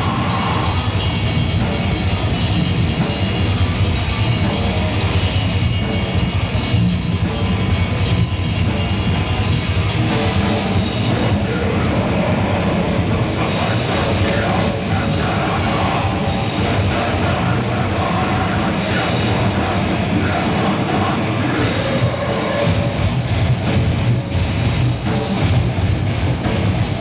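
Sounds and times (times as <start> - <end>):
live metal band playing: 0.0 - 27.0.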